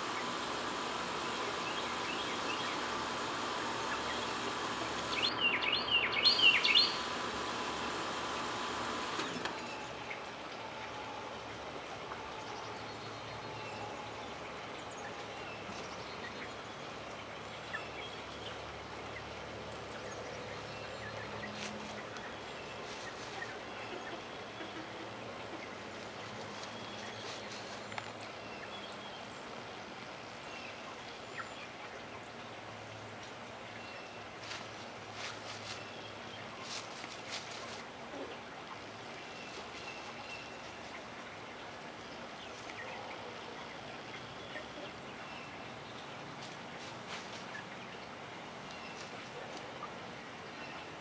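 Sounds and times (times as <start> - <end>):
outdoor background noise: 0.0 - 51.0.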